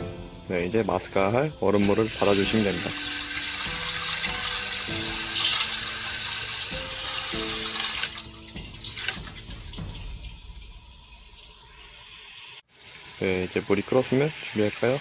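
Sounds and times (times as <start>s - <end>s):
tap running water into a bowl: 1.8s - 15.0s.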